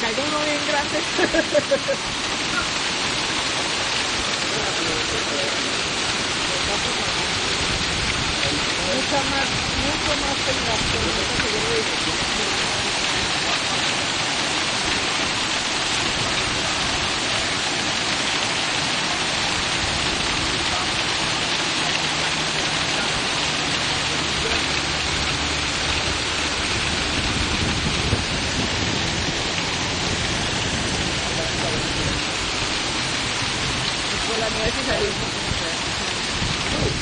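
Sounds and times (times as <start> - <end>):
heavy rain on roofs: 0.0 - 37.0.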